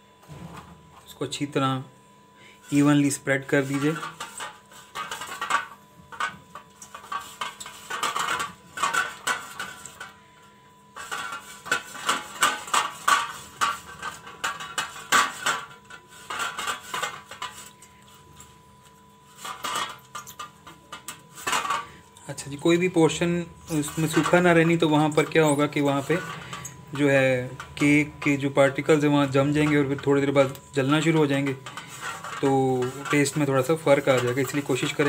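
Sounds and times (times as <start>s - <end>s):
utensil scraping cake pan: 2.6s - 10.2s, 11.0s - 18.5s, 19.2s - 35.0s.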